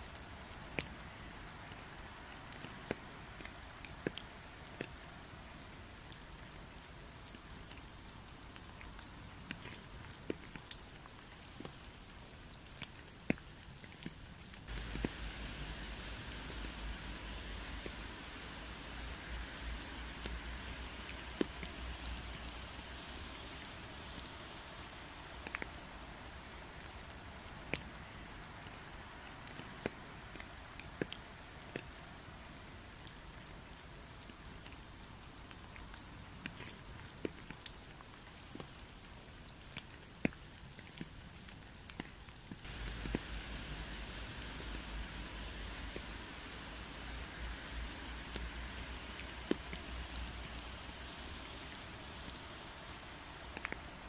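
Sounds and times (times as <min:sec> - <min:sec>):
raindrops tapping close by: 0:00.0 - 0:54.0
steady rain: 0:00.0 - 0:54.0.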